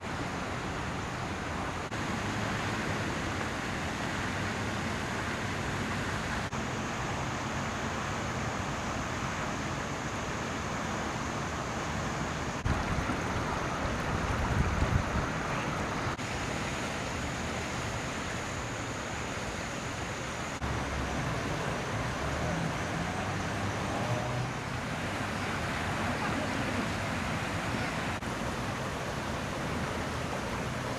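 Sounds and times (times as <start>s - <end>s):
floodwater rushing: 0.0s - 30.9s.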